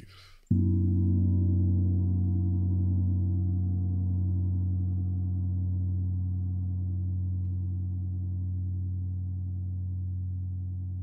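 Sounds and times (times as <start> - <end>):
low gong ringing: 0.5 - 10.9.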